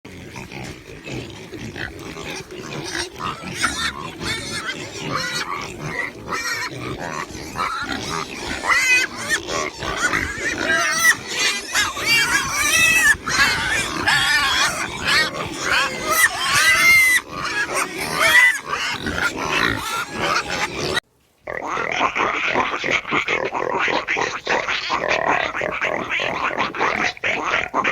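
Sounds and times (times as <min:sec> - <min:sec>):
piglets squealing: 0:00.1 - 0:27.9
pigs grunting: 0:00.1 - 0:27.9.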